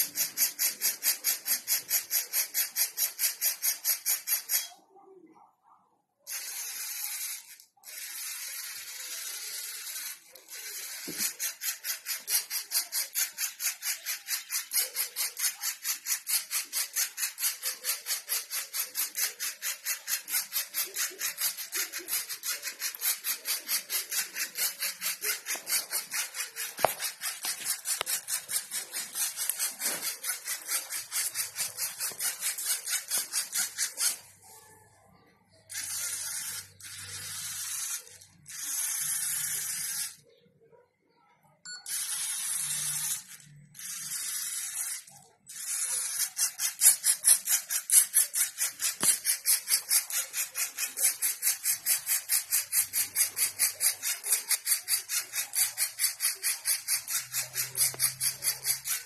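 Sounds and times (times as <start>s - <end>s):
electric motors whirring: 6.3s - 34.4s, 35.7s - 40.2s, 41.9s - 59.0s.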